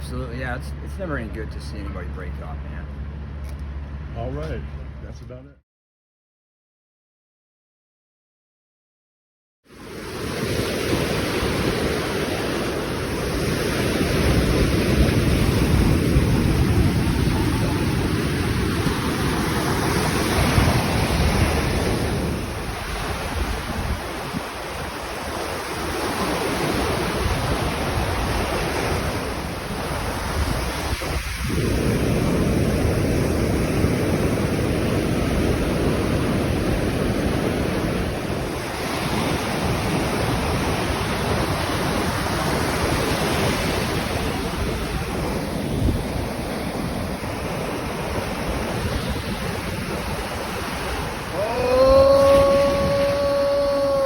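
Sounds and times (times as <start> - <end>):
ocean surf breaking: 9.7 - 54.0
wind buffeting microphone: 10.0 - 54.0.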